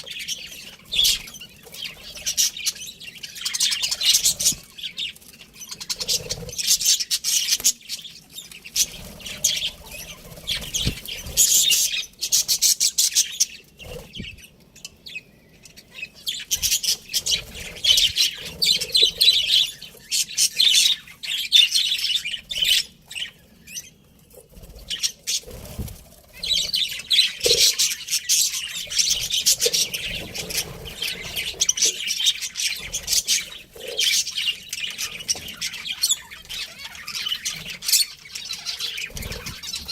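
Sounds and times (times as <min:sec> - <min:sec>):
budgerigars chirping: 0:00.0 - 0:24.1, 0:24.7 - 0:39.9.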